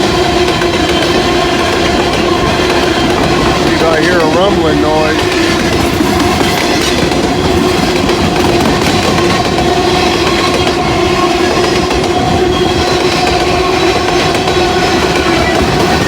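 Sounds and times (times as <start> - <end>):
constant whining tone: 0.0 - 16.0
freight train rumbling on track: 0.0 - 16.0.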